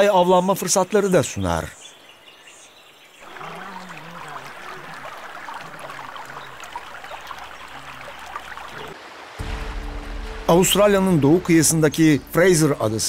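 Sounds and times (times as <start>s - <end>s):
water trickling and splashing: 1.9s - 13.0s.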